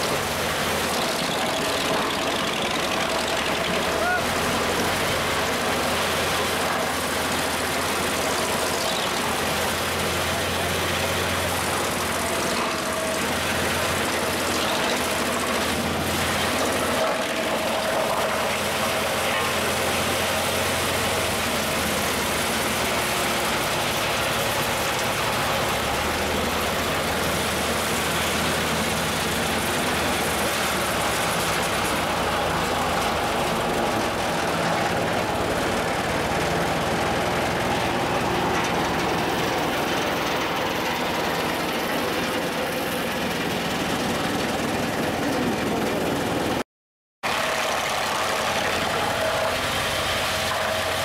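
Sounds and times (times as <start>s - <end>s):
wood chipper running: 0.0s - 46.6s, 47.2s - 51.0s.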